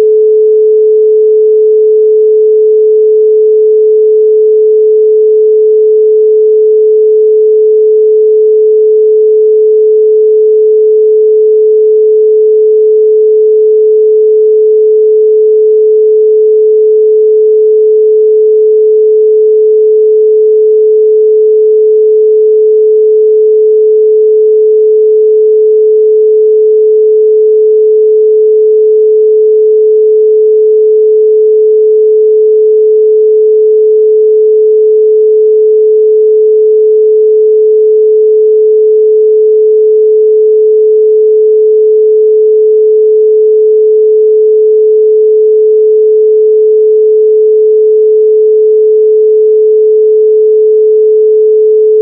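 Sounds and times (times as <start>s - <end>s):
pure sine tone: 0.0s - 52.0s.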